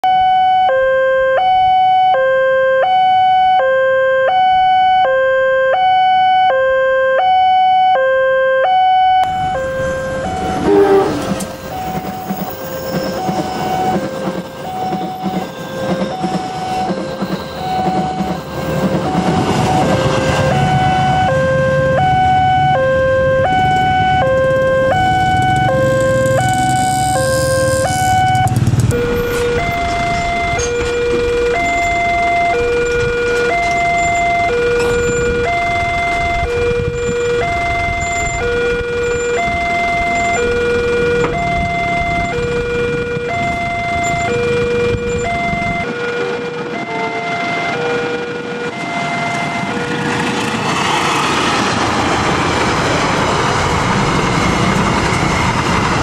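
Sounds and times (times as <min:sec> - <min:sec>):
two-tone crossing alarm: 0:00.0 - 0:50.7
train rumbling past: 0:09.2 - 0:56.0.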